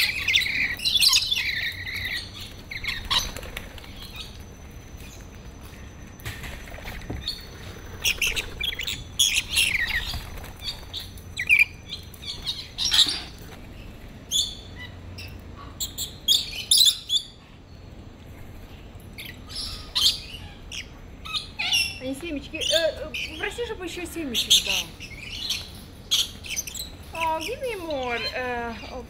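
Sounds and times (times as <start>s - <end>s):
parrots screeching and chirping: 0.0s - 4.4s, 7.0s - 13.5s, 14.3s - 17.4s, 19.1s - 28.9s.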